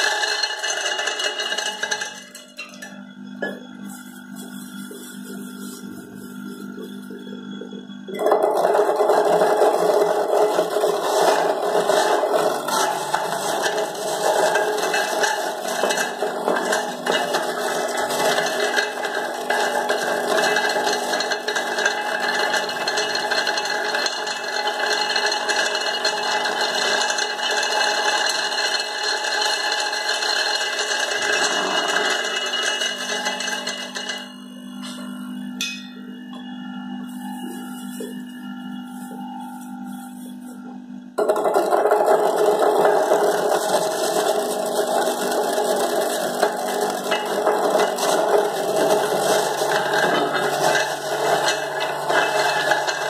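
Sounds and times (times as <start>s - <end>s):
juicer rattling scraping grind: 0.0s - 35.0s, 41.2s - 53.0s
juicer motor hum: 0.0s - 53.0s.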